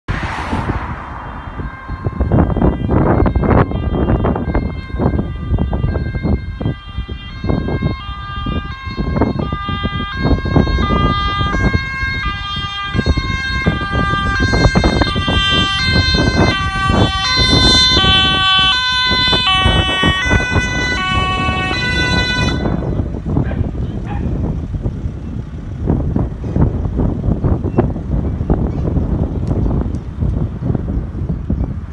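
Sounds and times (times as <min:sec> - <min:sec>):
loud low rumbling: 0:00.1 - 0:31.9
two-tone ambulance siren: 0:01.0 - 0:31.6.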